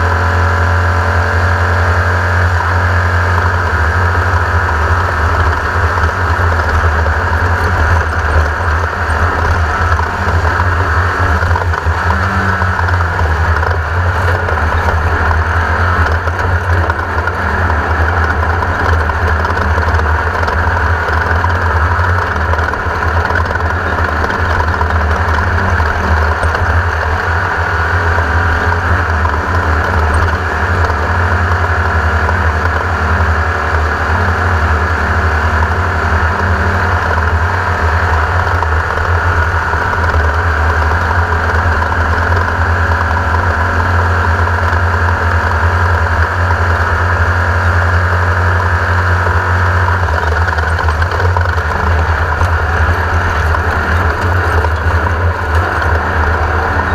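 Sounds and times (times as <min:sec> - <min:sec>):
air-cooled buggy engine running: 0:00.0 - 0:56.9.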